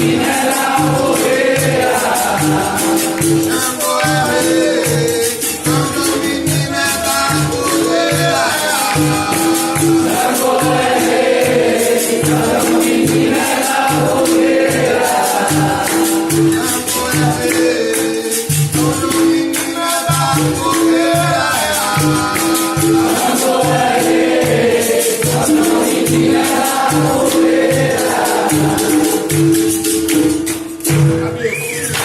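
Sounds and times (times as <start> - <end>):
voices singing a chorus: 0.0 - 30.2
percussion beat: 0.0 - 32.0.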